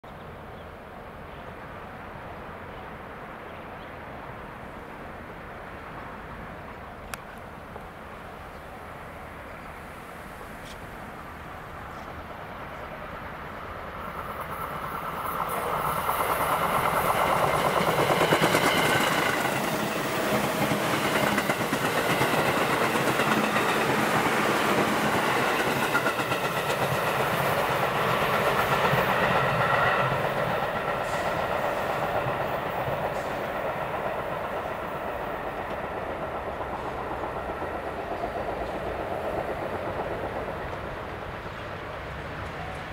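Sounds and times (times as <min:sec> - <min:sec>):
electric train passing: 0:00.4 - 0:42.9.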